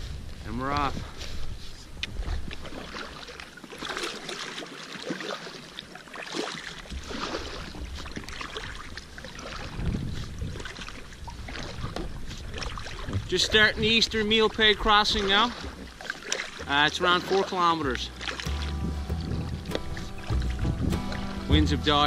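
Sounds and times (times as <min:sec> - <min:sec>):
paddle splashing through water: 0:01.0 - 0:22.0.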